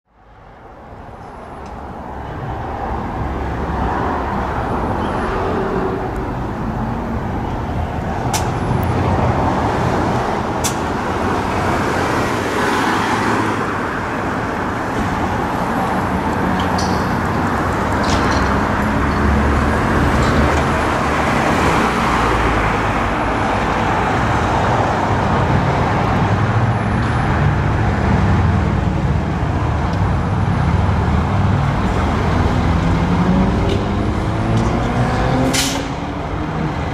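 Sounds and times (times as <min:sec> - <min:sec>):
heavy traffic engine rumble: 0:00.1 - 0:36.9.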